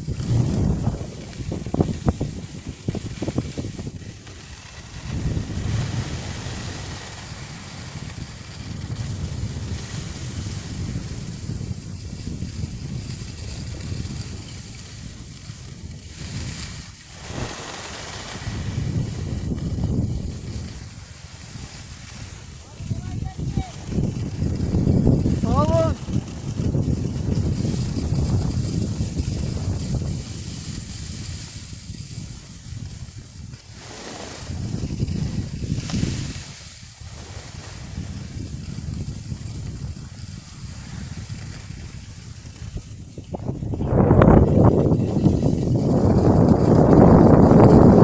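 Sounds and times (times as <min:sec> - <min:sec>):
skis hissing on snow: 0:00.0 - 0:48.0
wind buffeting microphone: 0:00.0 - 0:48.0.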